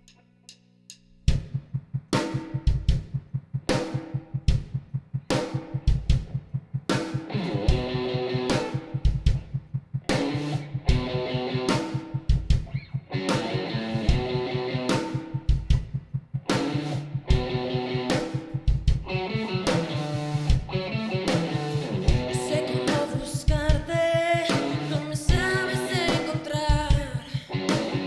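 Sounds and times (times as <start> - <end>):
band playing steady beat: 1.3 - 28.0.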